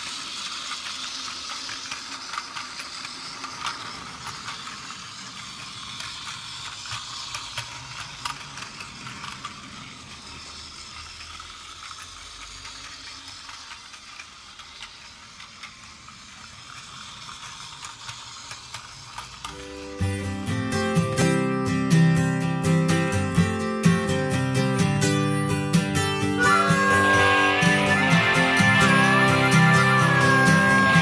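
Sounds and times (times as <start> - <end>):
wheels clicking over track joints: 0.0 - 21.4, 25.4 - 31.0
toy train motor whirring: 0.0 - 31.0.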